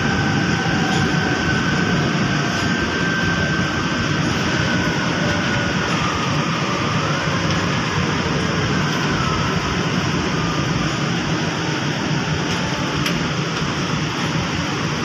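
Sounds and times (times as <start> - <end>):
high train whine: 0.0 - 15.0
train rumble and rush: 0.0 - 15.0.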